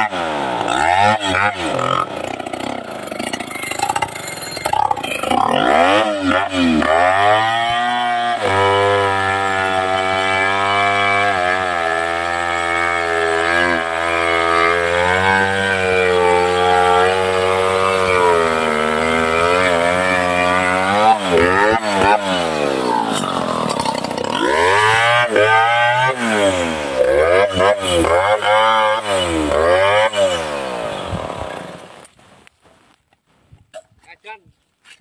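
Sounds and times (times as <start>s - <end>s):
chainsaw cutting tree trunk: 0.0s - 32.2s.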